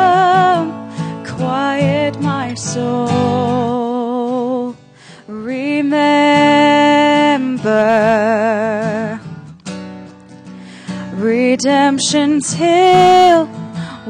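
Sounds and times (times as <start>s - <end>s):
person singing with vibrato: 0.0s - 9.4s, 10.8s - 14.0s
acoustic guitar: 0.0s - 14.0s.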